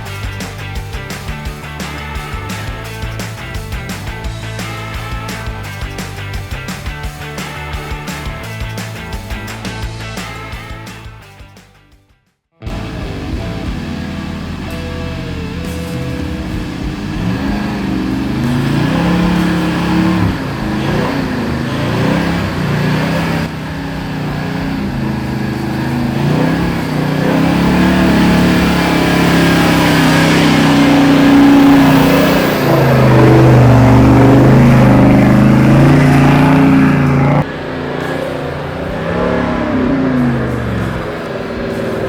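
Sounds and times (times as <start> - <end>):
engine revving hard: 0.0 - 11.3, 12.7 - 42.0.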